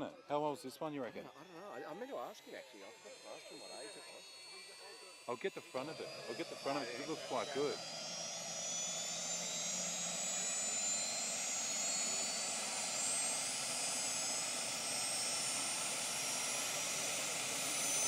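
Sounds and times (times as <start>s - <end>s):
helicopter turbine whine: 0.0s - 18.0s.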